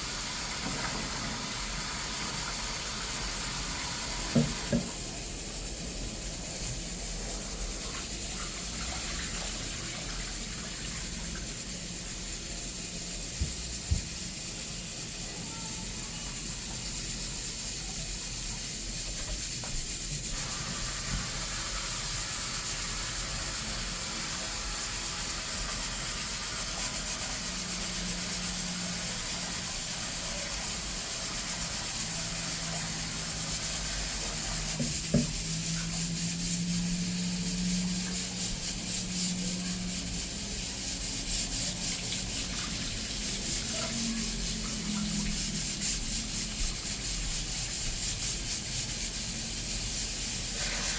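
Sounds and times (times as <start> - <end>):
tap water running: 0.0 - 50.9.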